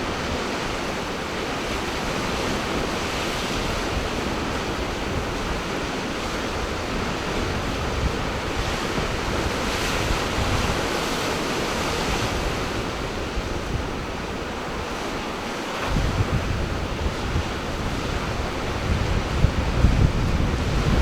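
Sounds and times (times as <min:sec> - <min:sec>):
ocean surf washing ashore: 0:00.0 - 0:21.0
wind buffeting microphone: 0:00.0 - 0:21.0.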